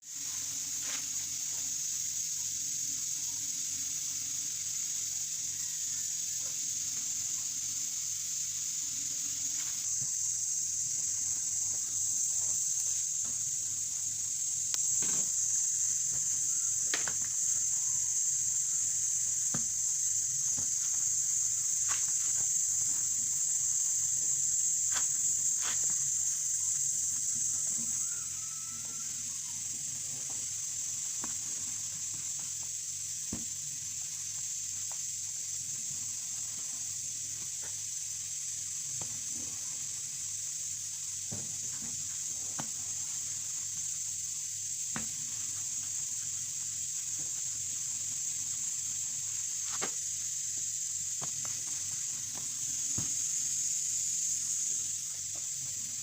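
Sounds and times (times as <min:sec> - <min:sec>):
steady high-pitched hiss: 0:00.0 - 0:56.0.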